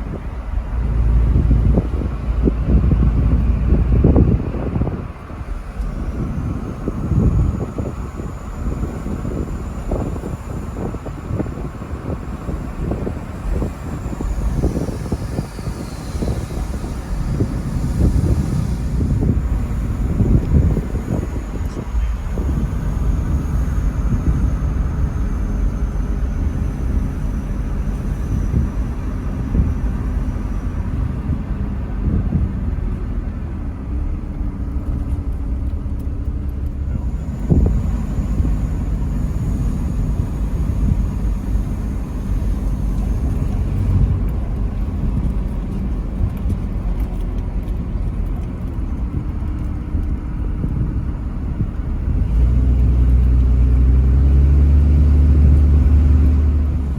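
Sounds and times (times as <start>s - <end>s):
faint high whine: 0.0s - 47.2s
truck engine and tyres rumbling: 0.0s - 56.9s.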